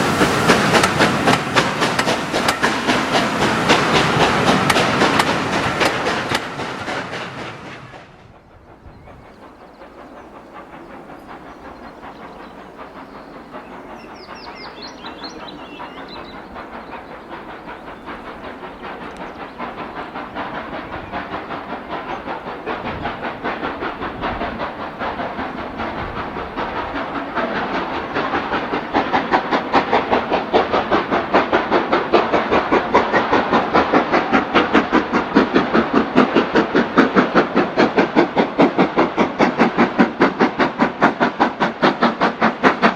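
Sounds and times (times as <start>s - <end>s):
steam locomotive exhaust beats: 0.0s - 42.9s.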